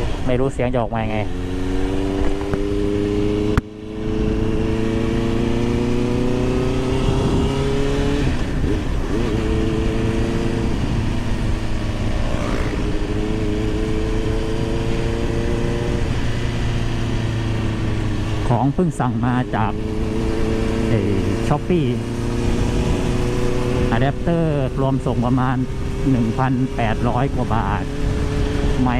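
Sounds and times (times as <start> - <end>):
motorcycle engine accelerating: 0.0 - 28.9
wind noise over microphone: 1.2 - 28.9.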